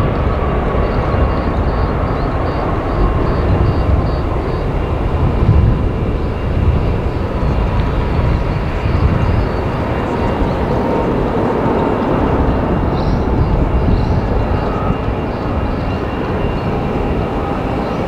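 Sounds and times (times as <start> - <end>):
jet engine rumble: 0.0 - 18.0
thin engine whine: 0.0 - 18.0
wind buffeting microphone: 0.0 - 18.0.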